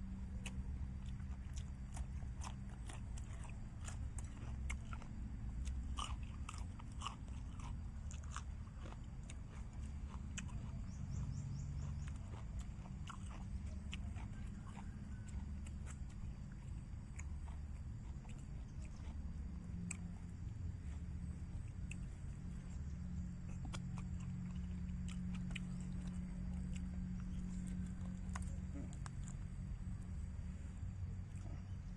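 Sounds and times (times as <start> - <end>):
person chewing crunchy food: 0.0 - 31.9
steady low rumble: 0.0 - 31.9.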